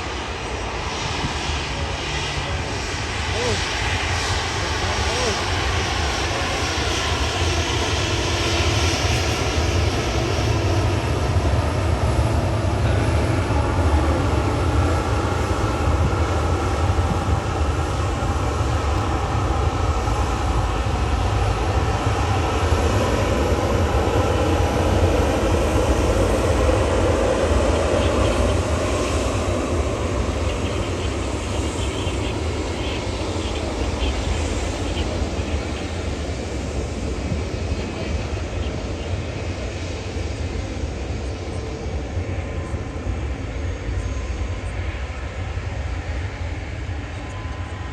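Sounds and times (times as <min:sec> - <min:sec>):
jet airliner engines roaring: 0:00.0 - 0:47.9.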